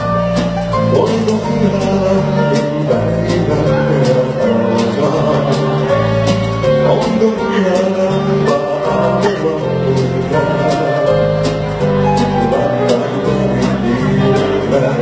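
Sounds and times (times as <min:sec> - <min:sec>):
moving bass line: 0:00.0 - 0:15.0
music with steady beat: 0:00.0 - 0:15.0.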